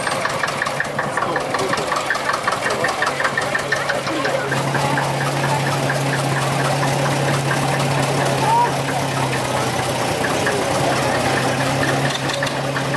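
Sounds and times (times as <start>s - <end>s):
steady engine hum: 0.0s - 12.9s
tractor engine knocking beat: 0.0s - 12.9s.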